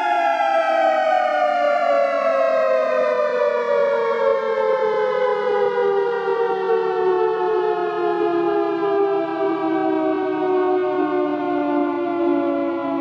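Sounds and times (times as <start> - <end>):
air raid siren wailing: 0.0 - 13.0.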